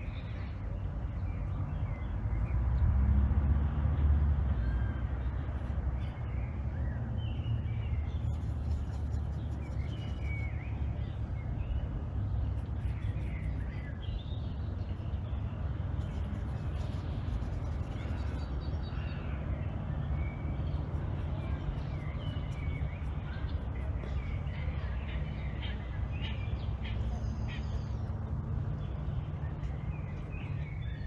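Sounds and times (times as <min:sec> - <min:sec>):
small birds chirping: 0:00.0 - 0:31.0
steady low rumble: 0:00.0 - 0:31.0.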